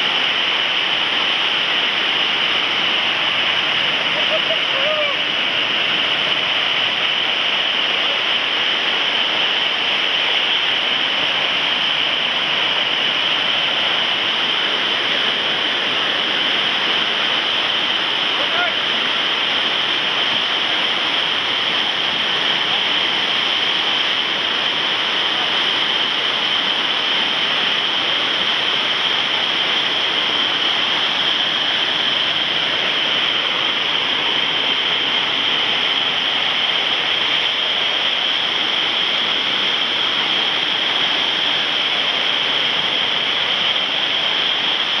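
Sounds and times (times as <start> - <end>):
water rushing over weir: 0.0 - 45.0.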